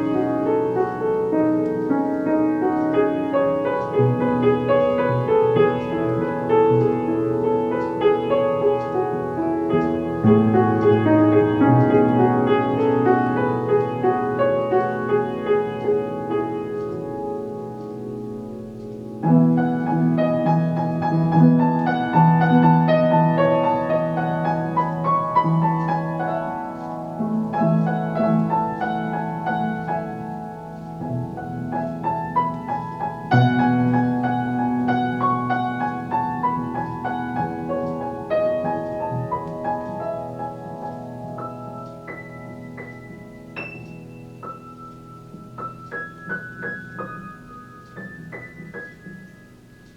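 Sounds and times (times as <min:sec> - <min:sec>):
gentle piano tune: 0:00.0 - 0:49.9.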